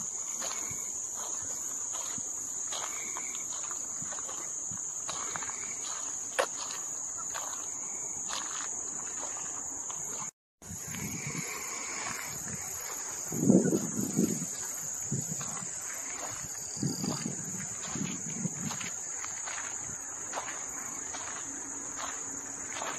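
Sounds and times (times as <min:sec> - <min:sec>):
soft footsteps: 0:00.0 - 0:10.3, 0:12.0 - 0:22.9
insects chirring: 0:00.0 - 0:22.9.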